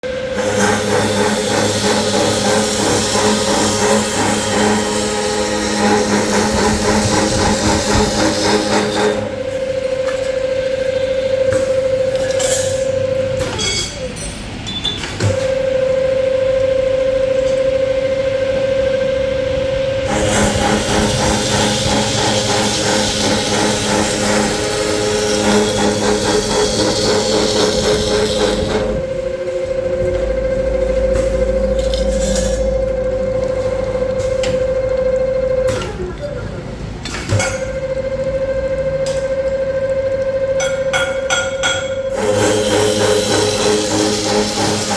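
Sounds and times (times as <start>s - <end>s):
cutting machine humming and pulsing: 0.0s - 13.9s, 15.2s - 44.9s.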